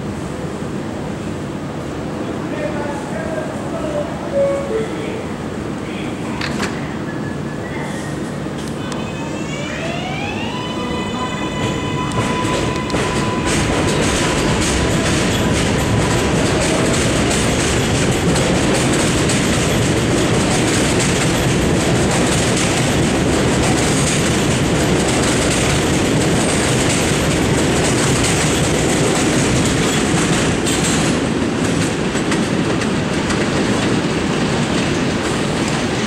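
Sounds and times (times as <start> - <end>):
subway train wheels clattering: 0.0 - 36.0.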